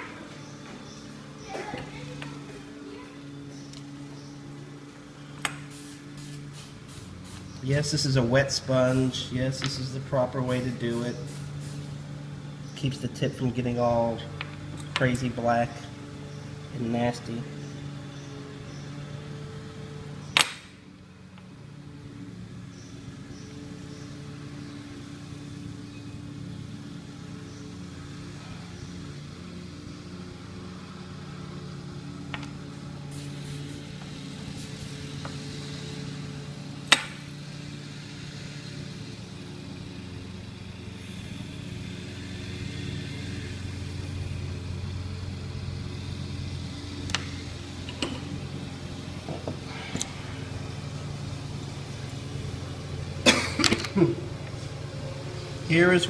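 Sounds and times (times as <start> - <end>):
low engine-like hum: 0.0 - 56.0.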